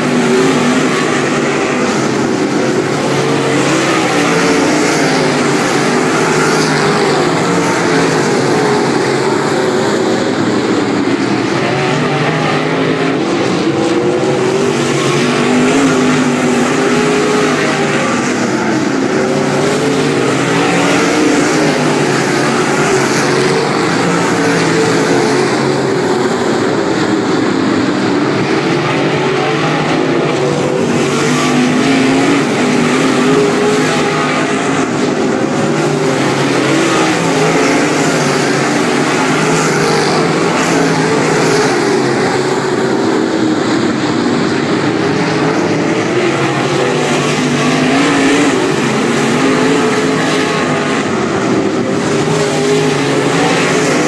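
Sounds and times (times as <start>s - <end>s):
race car engines racing: 0.0s - 54.0s.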